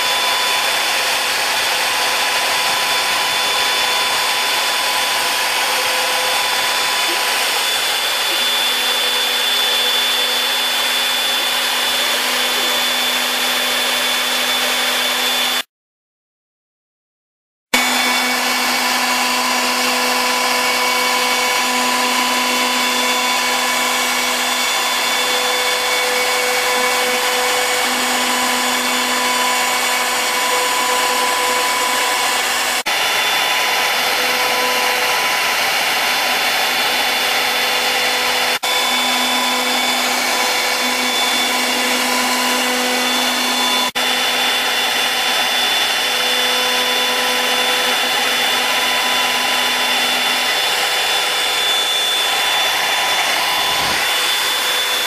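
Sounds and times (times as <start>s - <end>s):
router spindle humming and whining: 0.0s - 15.7s, 17.8s - 55.0s.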